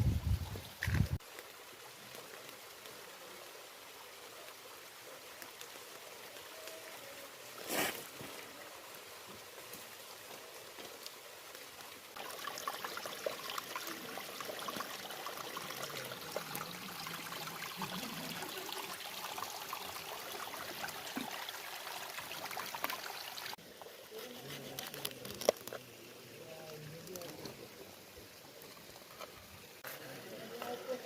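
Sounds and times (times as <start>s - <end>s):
water trickling: 0.0s - 31.0s
water rush: 0.7s - 31.0s.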